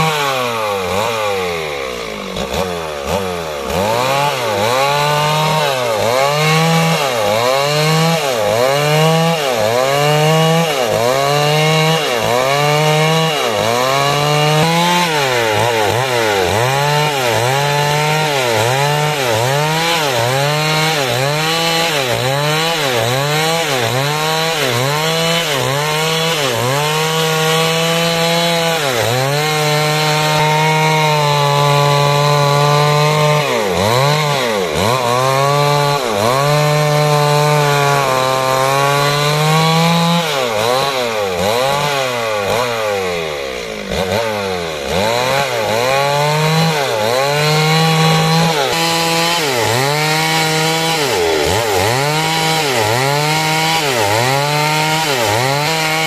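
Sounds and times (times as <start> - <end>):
chainsaw cutting through timber: 0.0 - 56.0.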